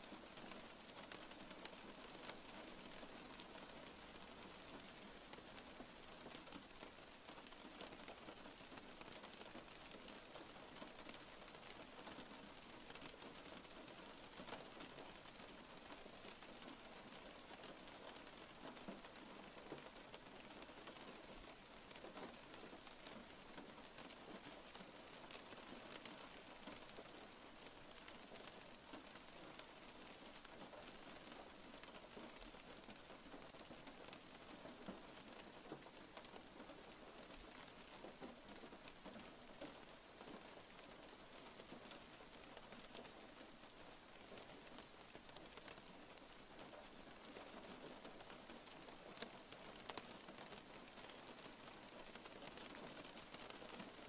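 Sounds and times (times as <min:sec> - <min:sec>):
faint rain patter: 0:00.0 - 0:54.0.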